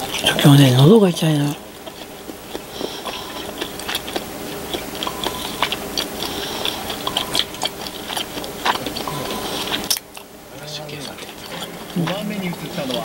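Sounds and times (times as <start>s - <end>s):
person chewing food: 0.0s - 0.9s, 1.5s - 13.0s.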